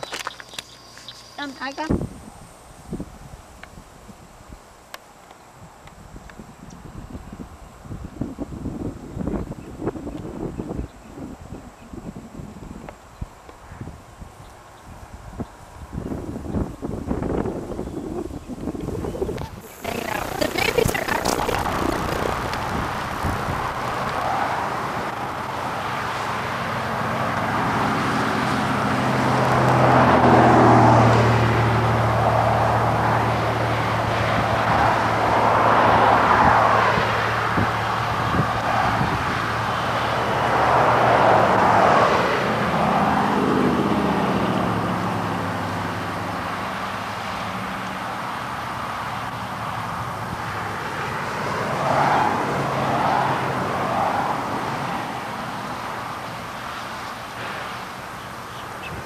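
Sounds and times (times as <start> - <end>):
low engine hum: 0.0 - 59.0
vehicles passing: 0.0 - 59.0.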